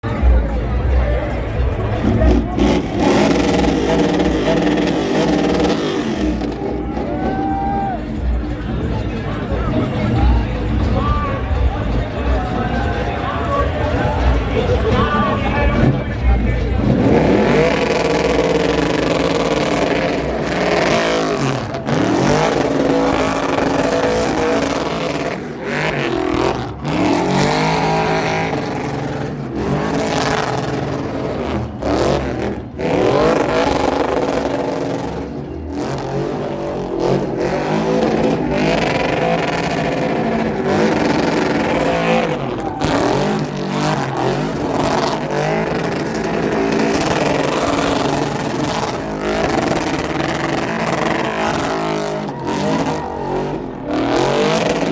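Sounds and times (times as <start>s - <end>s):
car engines revving hard: 0.0s - 54.9s.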